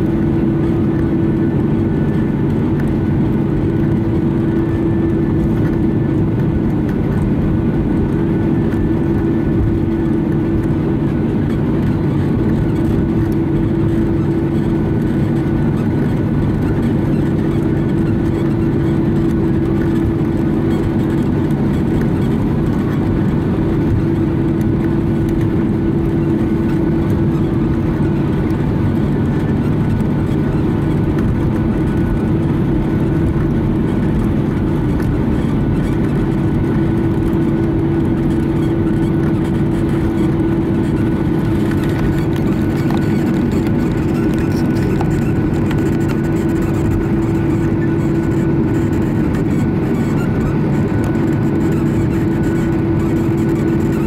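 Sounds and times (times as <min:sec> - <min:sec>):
jet engines droning: 0:00.0 - 0:54.0.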